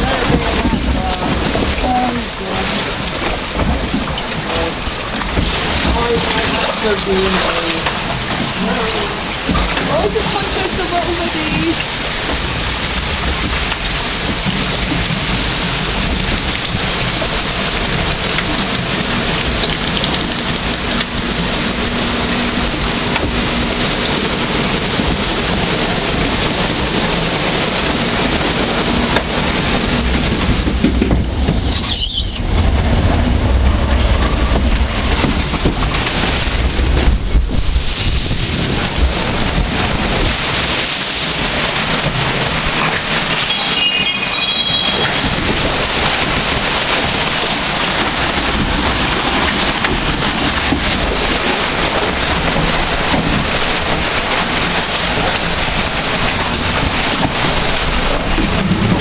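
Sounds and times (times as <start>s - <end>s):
deep rumble: 0.0s - 59.0s
flowing and splashing water: 0.0s - 59.0s.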